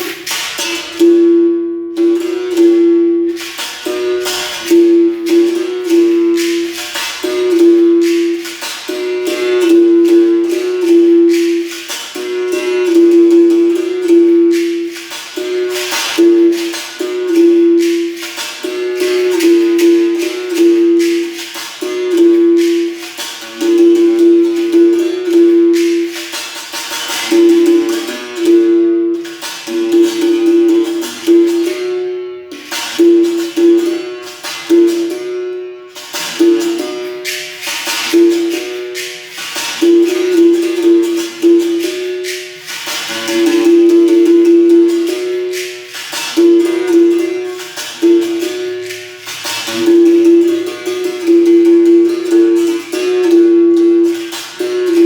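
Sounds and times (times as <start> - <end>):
rattle shaking: 0.0 - 1.1, 2.2 - 32.0, 32.6 - 55.0
berimbau notes: 0.0 - 55.0.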